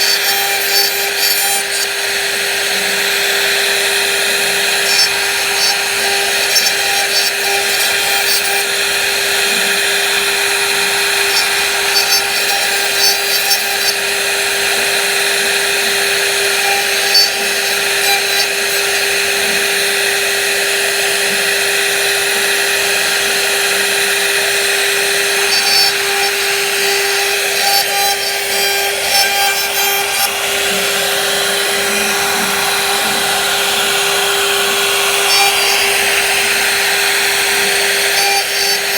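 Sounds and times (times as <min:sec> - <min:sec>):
power tool motor whining: 0:00.0 - 0:38.9
rough wood cutting noise: 0:00.0 - 0:38.9.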